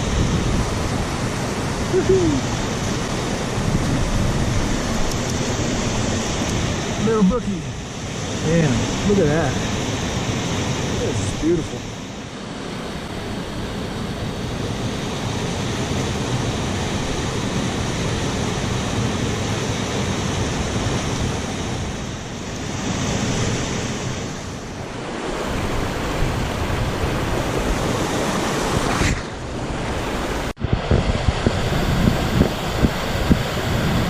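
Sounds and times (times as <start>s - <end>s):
waterfall and creek rushing: 0.0s - 34.0s.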